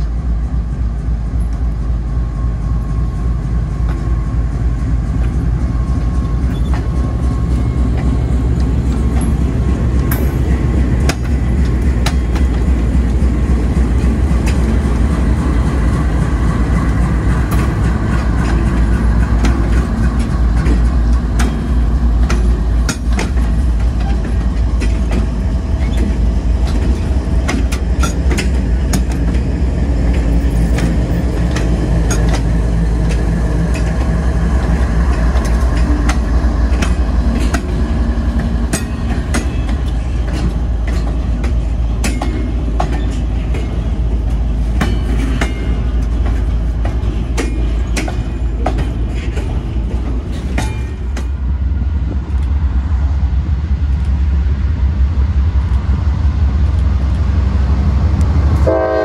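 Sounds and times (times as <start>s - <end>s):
train wheels clacking on rails: 0.0s - 54.5s
diesel locomotives rumbling: 0.0s - 59.0s.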